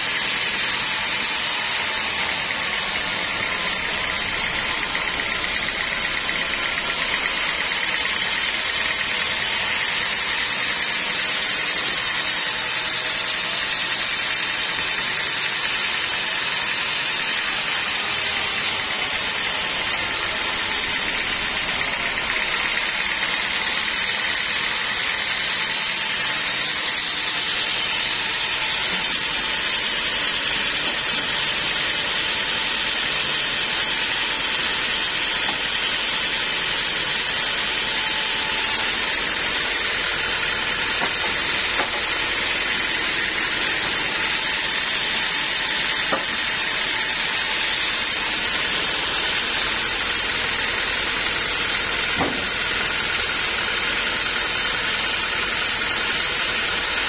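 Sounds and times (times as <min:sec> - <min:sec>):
band saw cutting timber: 0:00.0 - 0:57.0.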